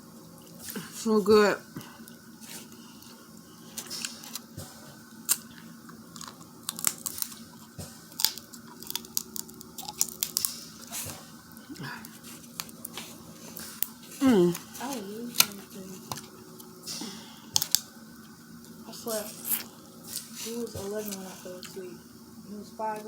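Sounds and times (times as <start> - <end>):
chewing and crunching food: 1.7 - 21.9.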